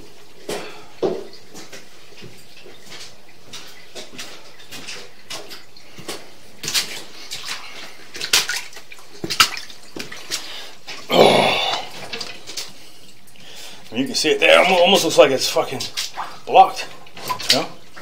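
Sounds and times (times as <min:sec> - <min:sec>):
water drips and splashes: 0:00.0 - 0:18.0
water trickling in a drain: 0:00.0 - 0:18.0.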